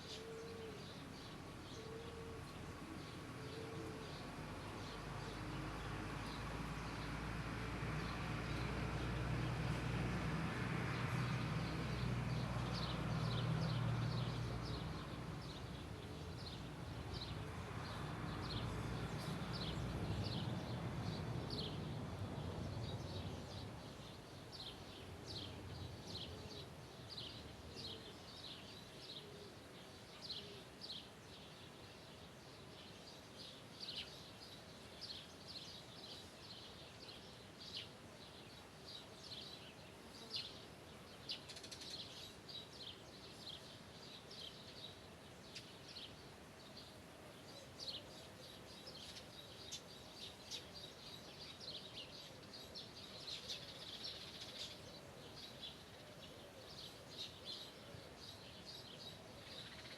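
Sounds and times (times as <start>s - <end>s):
bird chirping: 11.0s - 59.9s.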